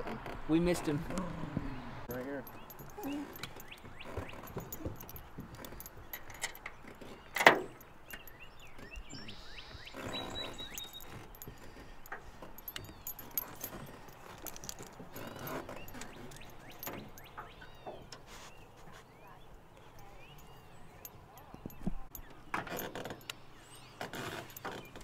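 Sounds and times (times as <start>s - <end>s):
dog collar tag jingling: 2.1s - 17.8s, 19.9s - 25.0s.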